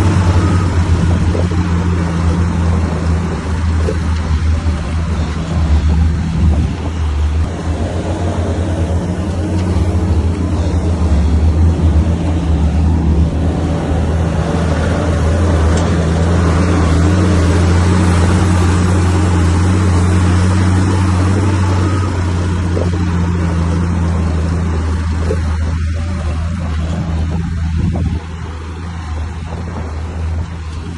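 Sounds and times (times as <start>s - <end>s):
heavy diesel engine droning: 0.0s - 30.9s.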